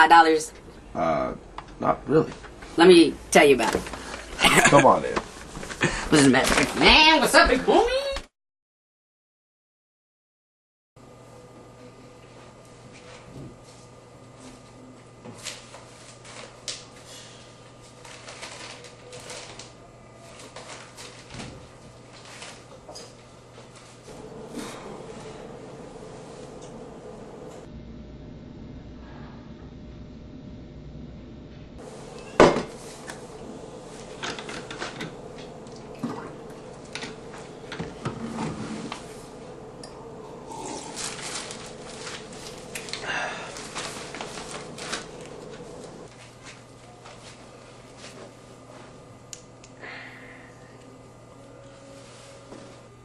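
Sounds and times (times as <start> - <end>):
steady low hum: 0.0 - 7.7, 11.0 - 53.0.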